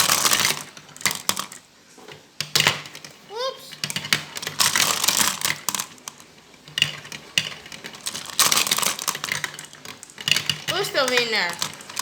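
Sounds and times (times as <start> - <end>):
marbles clattering down track: 0.0 - 1.6, 2.4 - 12.0.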